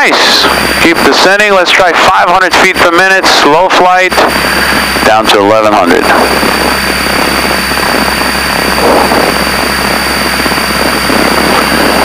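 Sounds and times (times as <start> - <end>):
propeller plane engine drone: 0.0 - 12.0
rushing air noise: 0.0 - 12.0.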